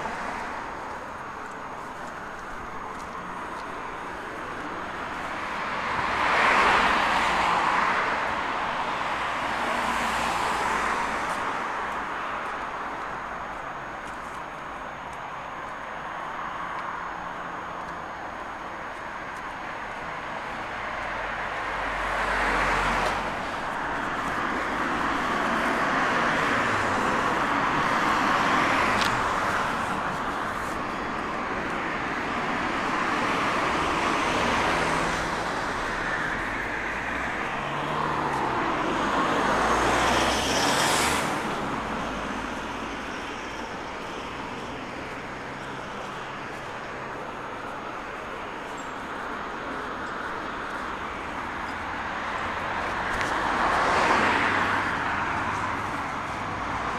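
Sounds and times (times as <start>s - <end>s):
road traffic passing: 0.0s - 56.9s.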